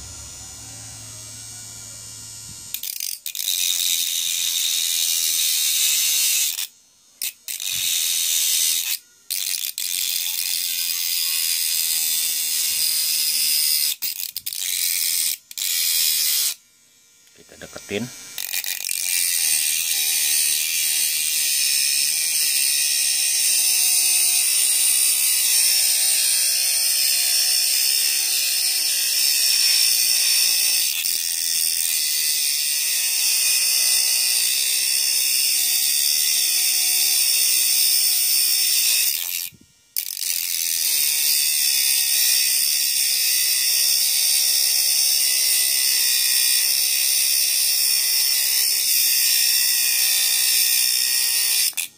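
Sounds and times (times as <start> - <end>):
small grinder motor running: 0.0 - 51.9.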